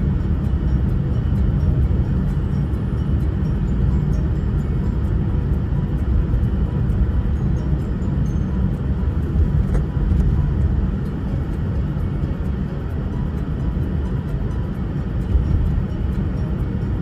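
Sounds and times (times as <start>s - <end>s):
car driving rumble: 0.0s - 17.0s
road noise: 0.0s - 17.0s.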